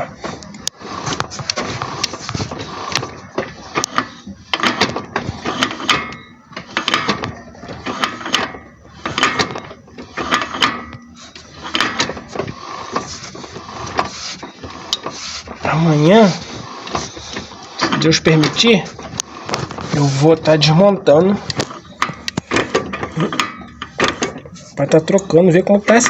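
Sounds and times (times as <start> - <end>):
driveshaft joint clicking and rattling: 0.0 - 26.0.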